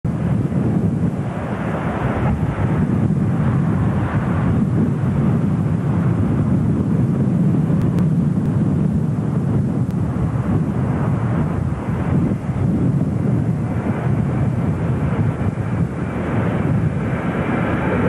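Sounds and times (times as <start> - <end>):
jet airliner engines rumbling: 0.0 - 18.0
wind buffeting microphone: 0.0 - 18.0.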